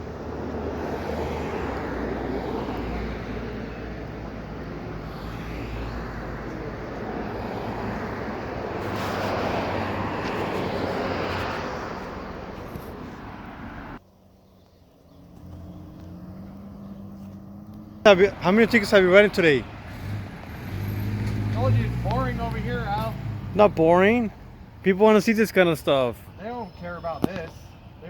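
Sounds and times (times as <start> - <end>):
road traffic passing: 0.0 - 28.0
steady engine hum: 0.0 - 28.0.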